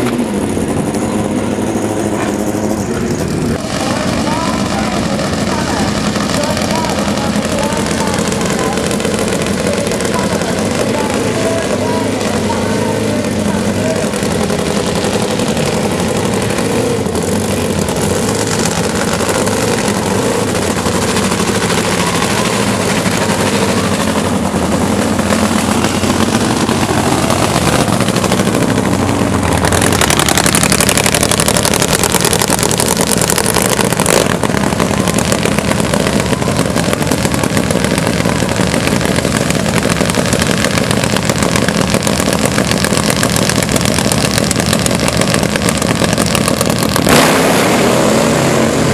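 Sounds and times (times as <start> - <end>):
motorcycle engine running loud: 0.0 - 48.9.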